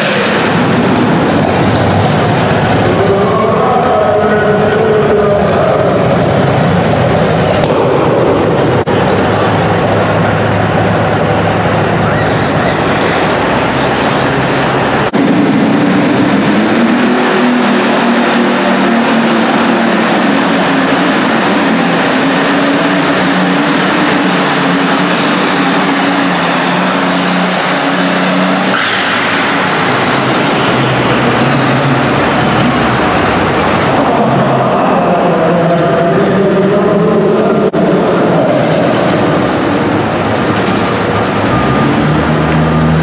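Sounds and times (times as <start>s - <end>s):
tractor engine at high revs: 0.0s - 43.0s
tractor engine running: 0.0s - 43.0s.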